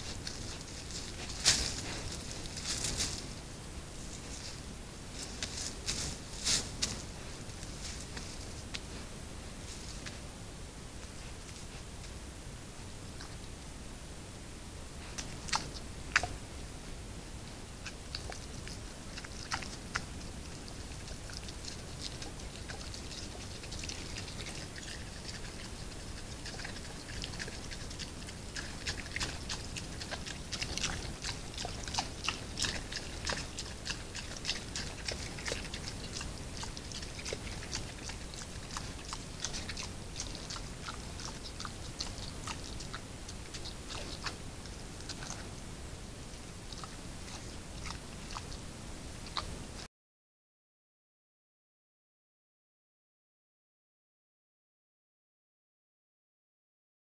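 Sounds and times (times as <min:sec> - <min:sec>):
boar chewing and crunching food: 0:00.0 - 0:12.2, 0:13.0 - 0:13.6, 0:14.9 - 0:49.9
microphone hiss: 0:00.0 - 0:49.9.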